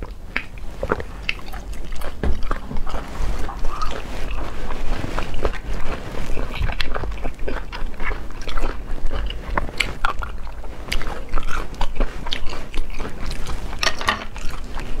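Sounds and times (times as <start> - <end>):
wet chewing clicks and crunches: 0.0 - 15.0.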